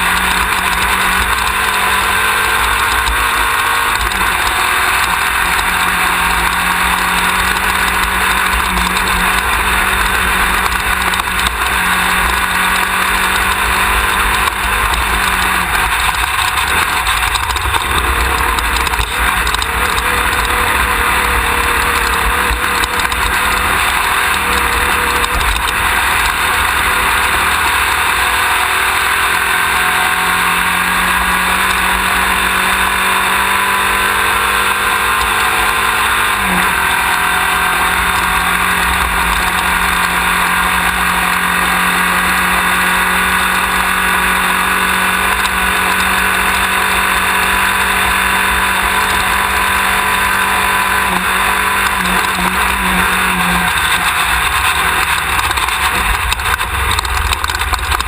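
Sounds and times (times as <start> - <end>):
buggy engine running hard: 0.0 - 58.0.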